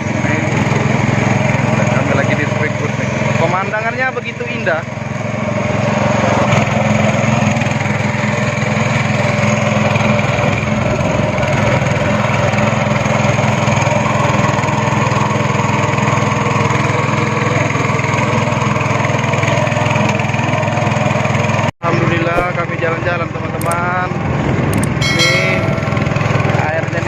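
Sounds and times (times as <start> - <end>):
speedboat engine running: 0.0 - 27.0.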